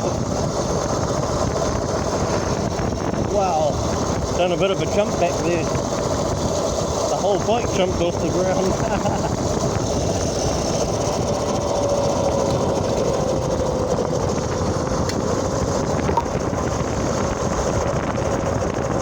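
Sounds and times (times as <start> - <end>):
dense rumbling noise: 0.0 - 19.0
electric motorbike whine: 0.0 - 19.0.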